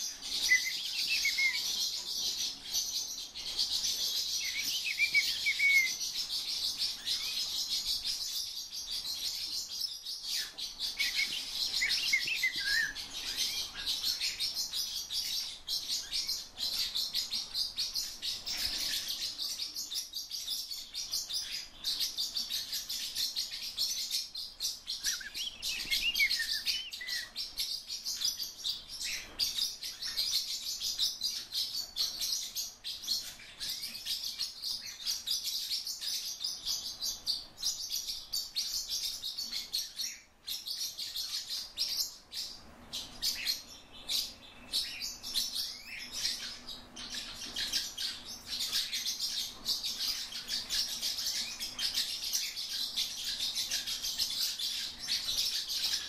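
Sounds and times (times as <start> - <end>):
birds twittering chorus: 0.0 - 56.0.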